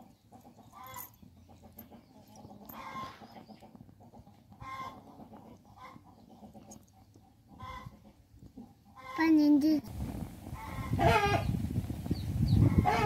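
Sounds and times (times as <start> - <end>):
chickens clucking: 0.0 - 9.3, 10.4 - 13.0.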